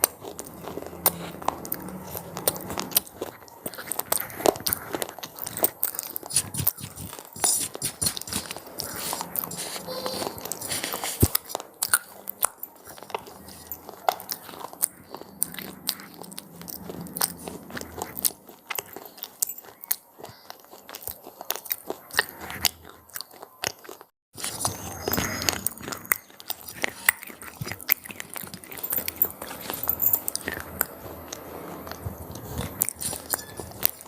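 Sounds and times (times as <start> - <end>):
crunchy snacks being chewed: 0.0 - 34.0.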